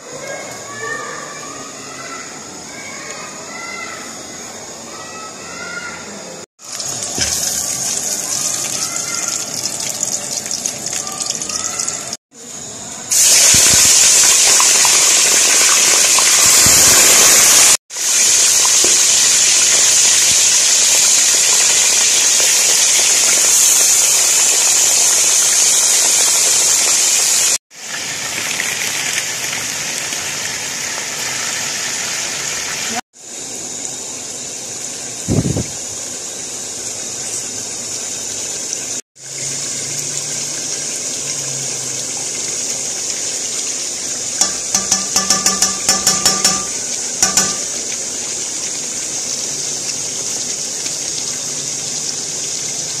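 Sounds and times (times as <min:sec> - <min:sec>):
chicken frying in hot oil: 0:06.6 - 0:53.0.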